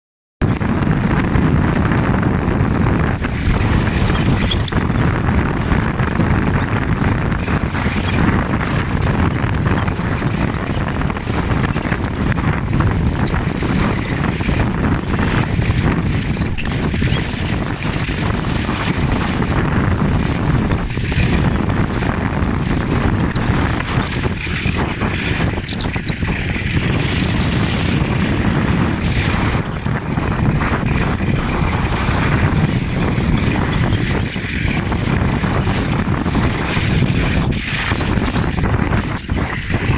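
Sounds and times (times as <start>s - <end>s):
wind rushing over microphone: 0.4s - 39.9s
short high-pitched squeaks: 1.7s - 19.6s, 20.4s - 39.9s.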